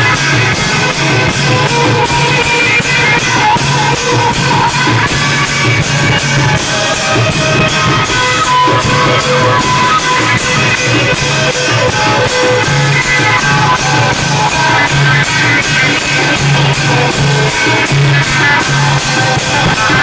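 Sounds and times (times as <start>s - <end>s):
cymbals: 0.0s - 20.0s
long drums: 0.0s - 20.0s.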